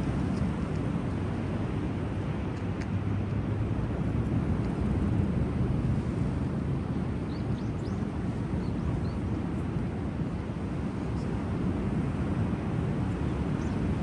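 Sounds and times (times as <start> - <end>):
surf rumbling: 0.0 - 14.0
wind: 0.0 - 14.0.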